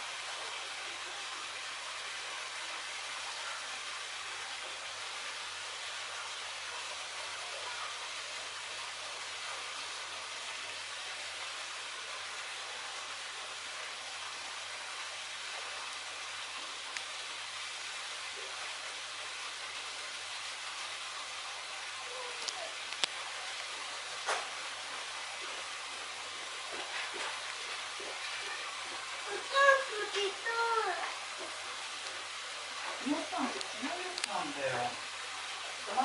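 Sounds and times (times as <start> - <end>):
steady background hiss: 0.0 - 36.0.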